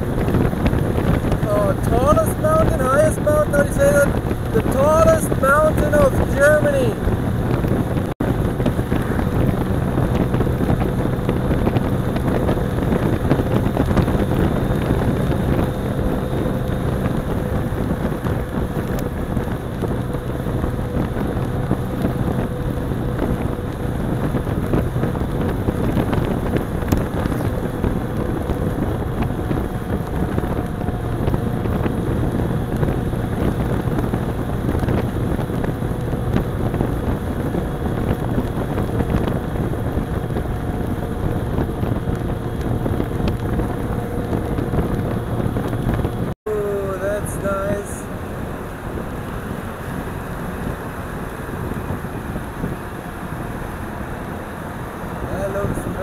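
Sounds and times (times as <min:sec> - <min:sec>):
scooter engine hum: 0:00.0 - 0:56.0
wind rushing over microphone: 0:00.0 - 0:56.0.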